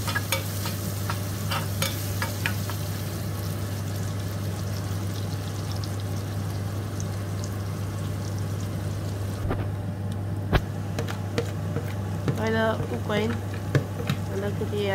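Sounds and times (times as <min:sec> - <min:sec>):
onion and garlic sizzling in oil: 0:00.0 - 0:09.5, 0:10.6 - 0:14.9.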